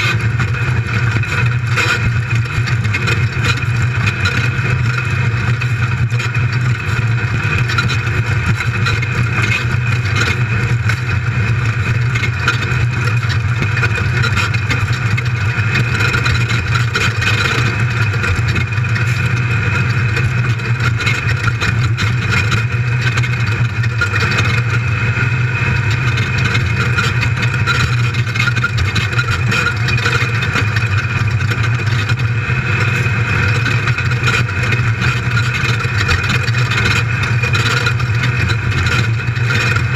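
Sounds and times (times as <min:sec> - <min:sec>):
car clattering over rough dirt: 0:00.0 - 0:39.9
engine droning at racing speed: 0:00.0 - 0:39.9.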